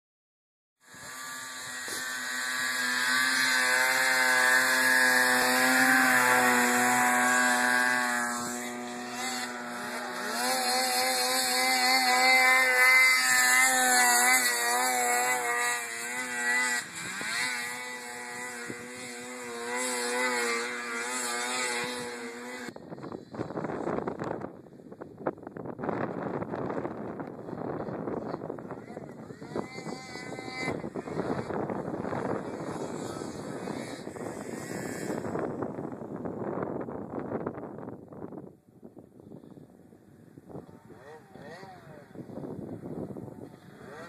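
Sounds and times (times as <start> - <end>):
snowmobile engine revving: 0.8 - 24.4, 25.9 - 37.3, 40.2 - 44.0
wind noise on microphone: 0.8 - 44.0.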